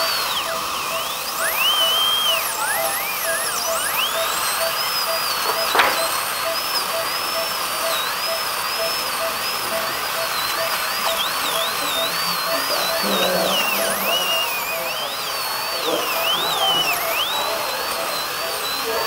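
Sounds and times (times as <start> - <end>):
dental drill whining: 0.0 - 19.0
faint repeating beep: 0.0 - 19.0.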